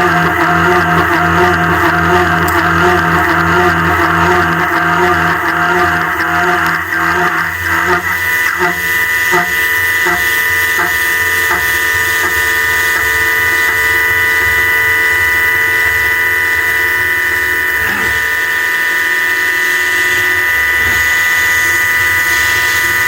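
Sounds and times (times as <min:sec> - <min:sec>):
milling machine spindle whine: 0:00.0 - 0:23.0.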